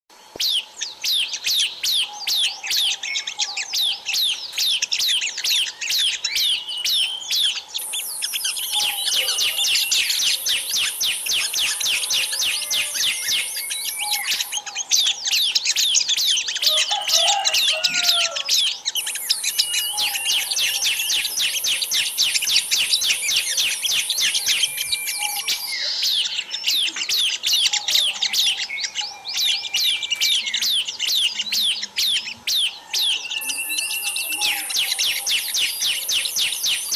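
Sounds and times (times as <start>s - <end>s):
small birds chirping: 0.1s - 36.9s
whistled bird notes: 0.4s - 36.9s.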